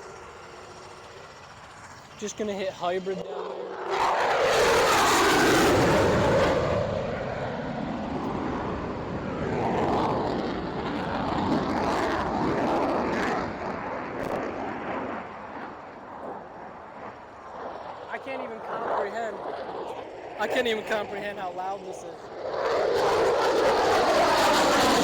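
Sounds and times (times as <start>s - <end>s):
fighter jet roar: 0.0s - 25.0s.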